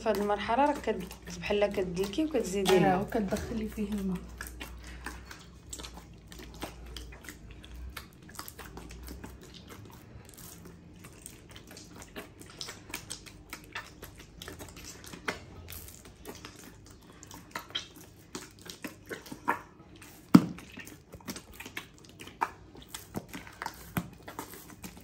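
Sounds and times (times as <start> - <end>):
dough being kneaded by hand: 0.0 - 25.0.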